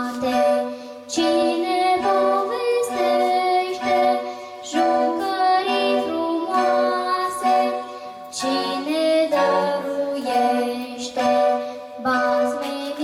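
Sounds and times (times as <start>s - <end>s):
electronic keyboard: 0.0s - 13.0s
girl singing into a microphone: 0.0s - 13.0s.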